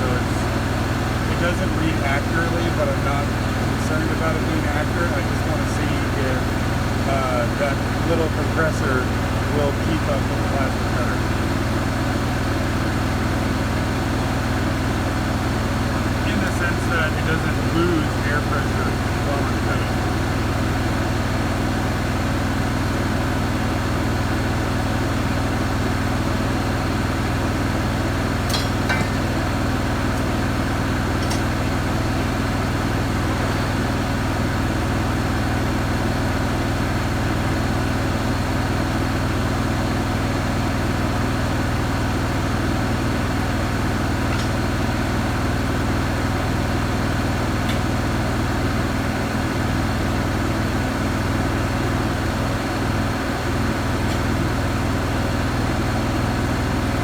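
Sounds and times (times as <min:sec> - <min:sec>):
generator engine idling: 0:00.0 - 0:57.0.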